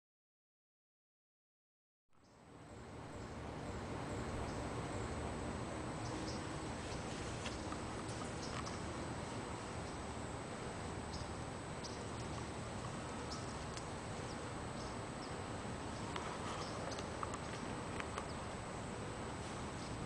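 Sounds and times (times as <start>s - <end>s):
faint high whine: 2.1s - 20.0s
steady hiss: 2.2s - 20.0s.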